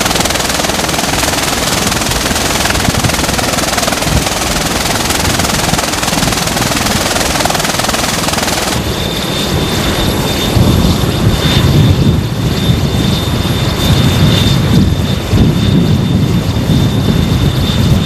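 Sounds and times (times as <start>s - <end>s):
aircraft rotor roar: 0.0s - 18.0s
high-pitched turbine whine: 0.0s - 18.0s
pulsing rotor beat: 0.0s - 18.0s.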